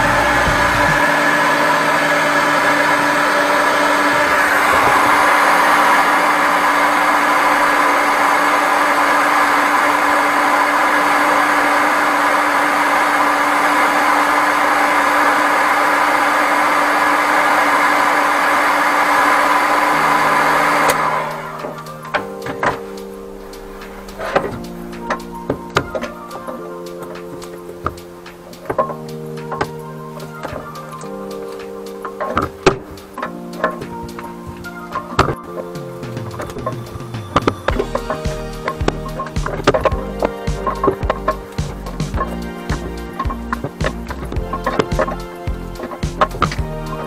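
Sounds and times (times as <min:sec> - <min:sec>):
heat gun fan whine: 0:00.0 - 0:47.0.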